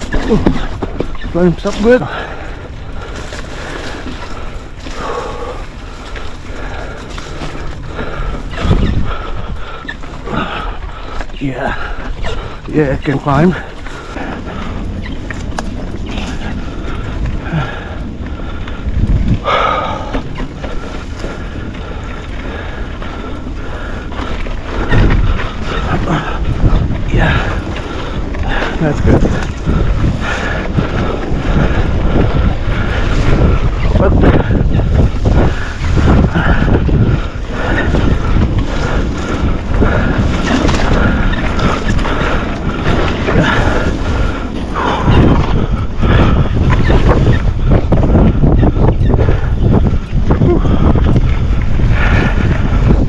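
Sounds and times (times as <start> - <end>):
mountain bike rumbling on trail: 0.0 - 53.0
wind buffeting microphone: 0.0 - 53.0.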